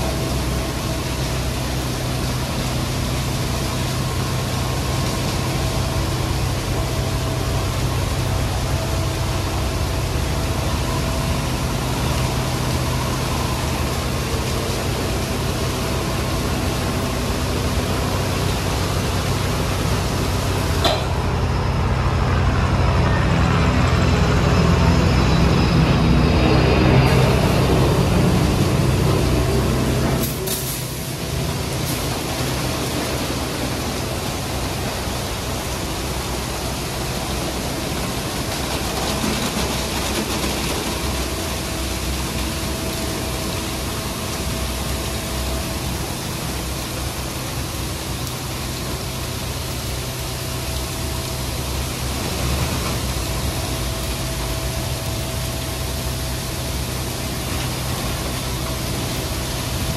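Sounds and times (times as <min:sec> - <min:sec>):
car wash rushing noise: 0:00.0 - 0:59.9.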